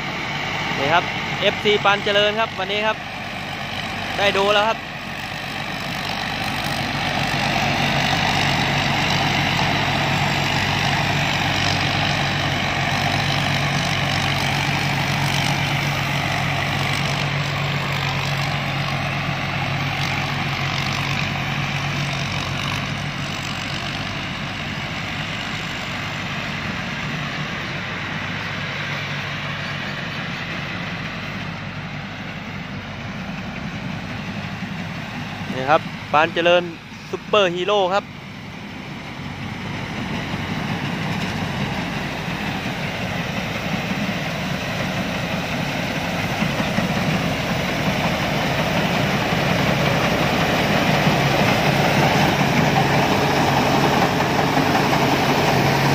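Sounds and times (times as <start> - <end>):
harvester engine running: 0.0 - 55.9.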